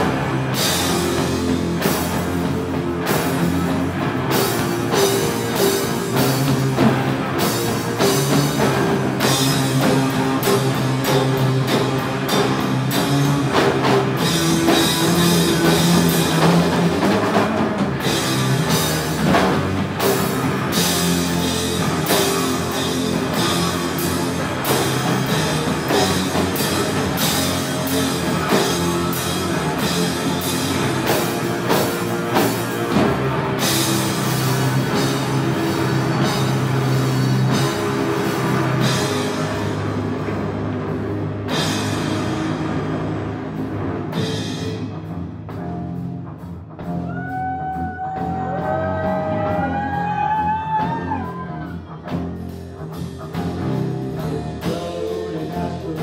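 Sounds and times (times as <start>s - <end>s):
drum kit playing: 0.0s - 56.0s
electric guitar chords: 0.0s - 56.0s.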